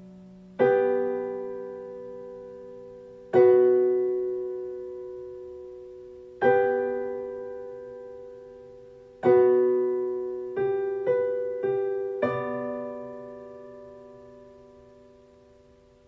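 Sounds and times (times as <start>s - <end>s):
slow soft piano chords: 0.0s - 16.0s.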